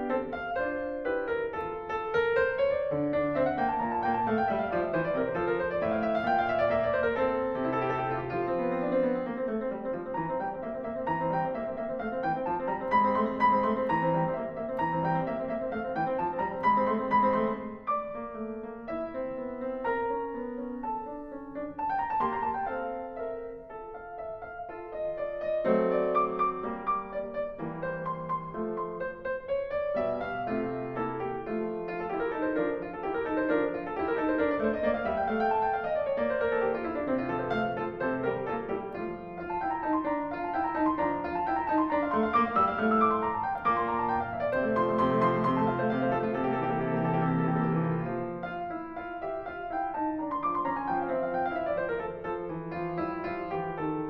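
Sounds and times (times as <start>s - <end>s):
gentle piano music: 0.0s - 54.0s.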